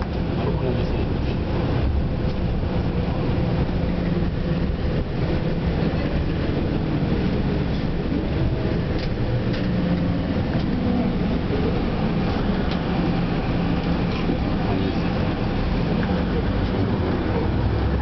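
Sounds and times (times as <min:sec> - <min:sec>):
bus engine drone: 0:00.0 - 0:18.0
road noise: 0:00.0 - 0:18.0.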